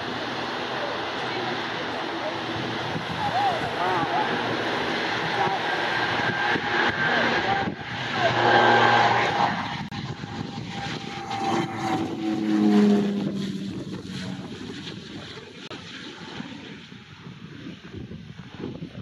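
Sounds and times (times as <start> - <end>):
turboprop plane climbing: 0.0 - 19.0.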